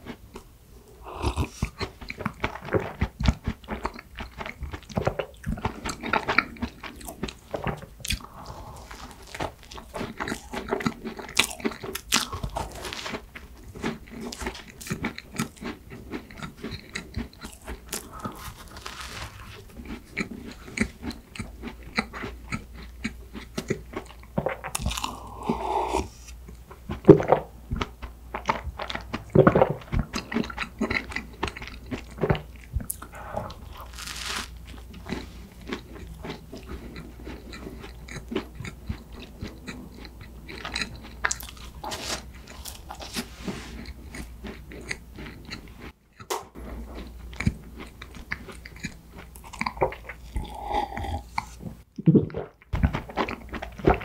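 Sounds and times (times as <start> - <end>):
bread chewing: 0.0 - 51.8, 52.4 - 54.0.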